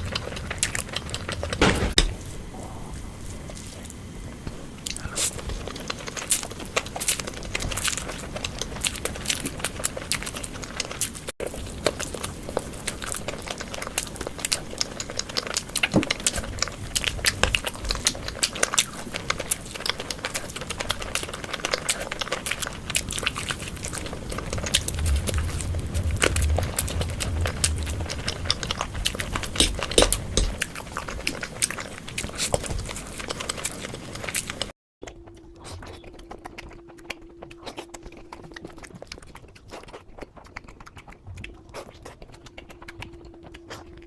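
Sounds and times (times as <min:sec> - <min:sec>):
close biting and chewing food: 0:00.0 - 0:44.0.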